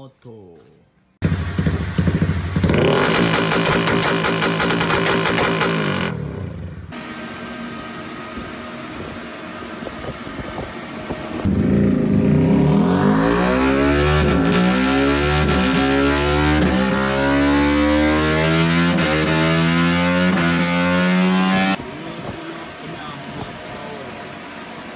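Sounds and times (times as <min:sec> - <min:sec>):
motorcycle engine revving: 0:01.2 - 0:07.1, 0:09.8 - 0:24.1.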